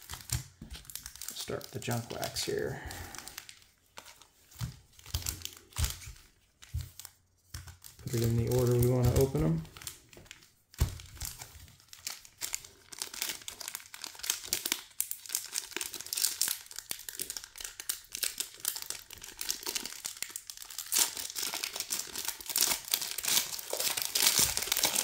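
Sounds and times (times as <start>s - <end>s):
wrapper crinkling and tearing: 0.0s - 25.0s.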